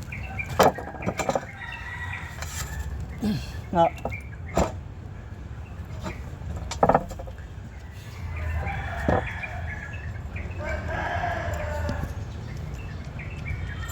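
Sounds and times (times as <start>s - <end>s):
chickens calling: 0.0s - 13.9s.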